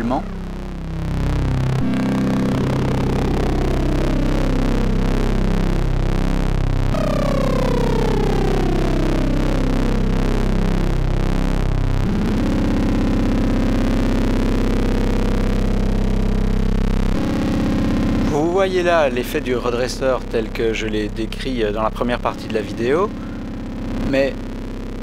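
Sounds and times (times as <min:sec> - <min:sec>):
buzzy synthesizer tone: 0:00.0 - 0:25.0.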